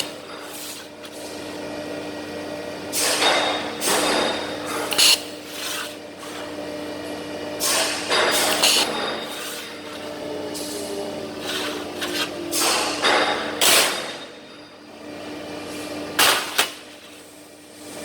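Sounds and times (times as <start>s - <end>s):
welding machine hum: 0.0s - 18.0s.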